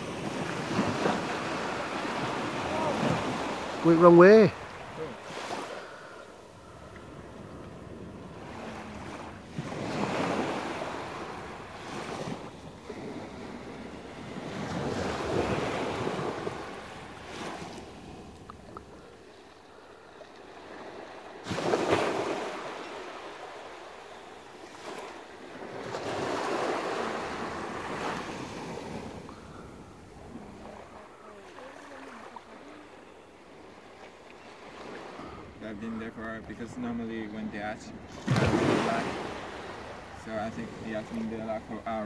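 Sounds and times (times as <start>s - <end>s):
surf washing onto beach: 0.0s - 19.5s, 20.2s - 33.2s, 34.7s - 42.0s.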